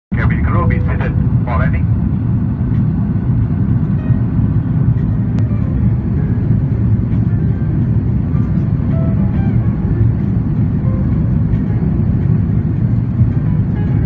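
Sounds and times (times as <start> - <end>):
airplane cabin rumble: 0.1 - 14.0.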